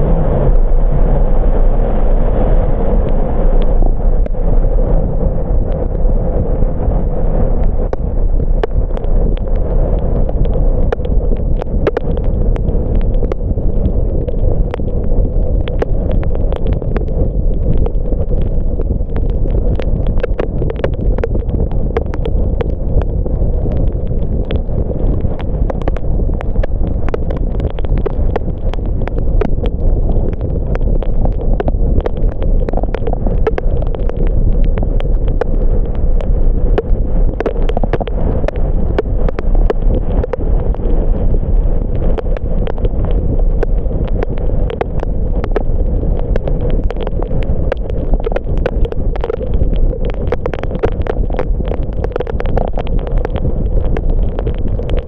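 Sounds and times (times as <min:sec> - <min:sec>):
road and wind noise: 0:00.0 - 0:55.0
raindrops hitting car: 0:02.2 - 0:55.0.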